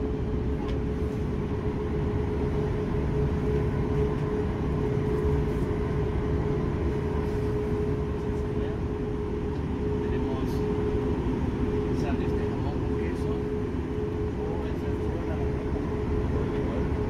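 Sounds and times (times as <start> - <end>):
air-conditioning ventilation rumble: 0.0 - 17.0
constant mid-pitched whine: 0.0 - 17.0.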